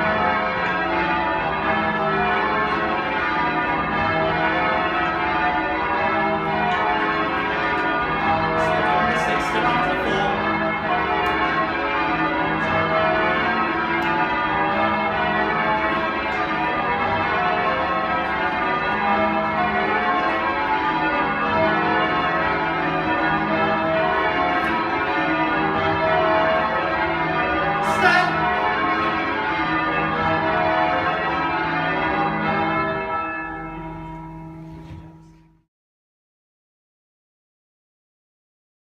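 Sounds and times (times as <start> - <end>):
church bells change ringing: 0.0 - 35.7.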